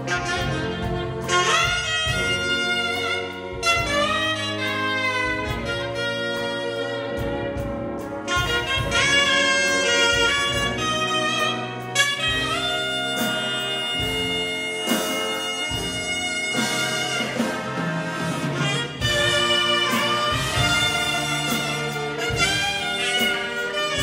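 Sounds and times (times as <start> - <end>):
big band playing jazz: 0.0 - 24.0
saxophone solo: 0.0 - 24.0.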